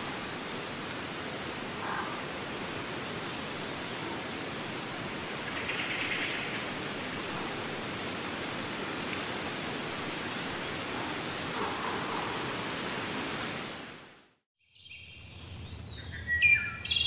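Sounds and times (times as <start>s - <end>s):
wind rustling tree leaves: 0.0s - 17.0s.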